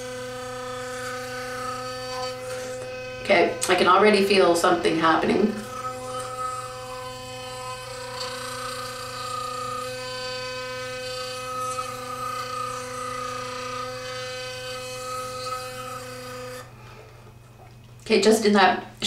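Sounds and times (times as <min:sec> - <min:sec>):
electric toothbrush buzzing: 0:00.0 - 0:18.7.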